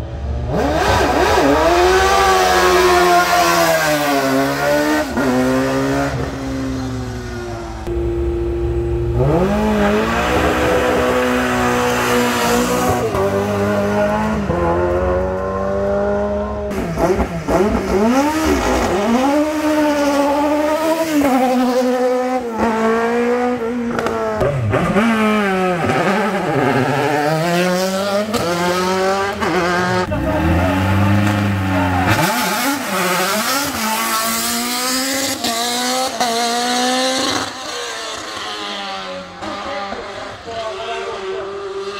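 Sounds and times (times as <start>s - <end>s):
race car engine accelerating: 0.0s - 41.9s.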